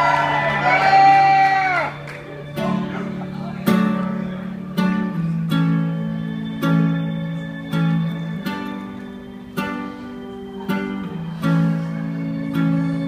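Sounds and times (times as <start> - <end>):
strummed acoustic chords: 0.0 - 13.0.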